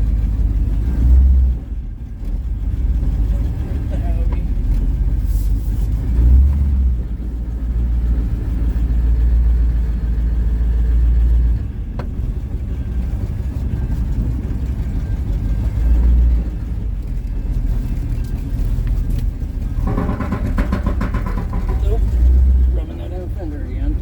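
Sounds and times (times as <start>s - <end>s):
engine deep low rumble: 0.0s - 24.0s.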